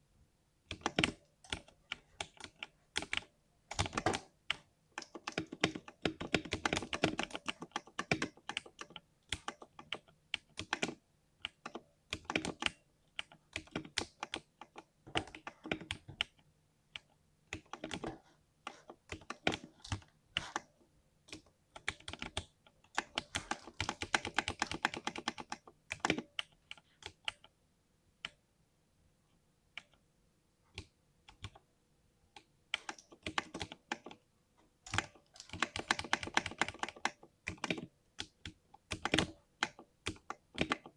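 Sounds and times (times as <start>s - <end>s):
mechanical keyboard typing: 0.7s - 16.4s, 17.0s - 20.7s, 21.3s - 27.5s, 30.7s - 31.6s, 32.4s - 34.2s, 34.9s - 40.9s.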